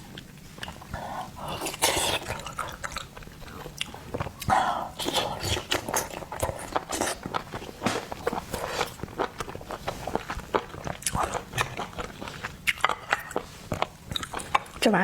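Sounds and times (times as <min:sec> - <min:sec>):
person chewing and biting: 0:00.0 - 0:14.8.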